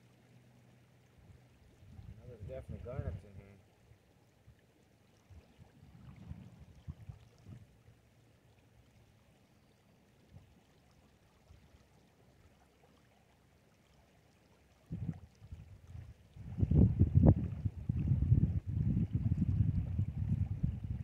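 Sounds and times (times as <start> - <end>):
shallow river water: 0.0 - 21.0.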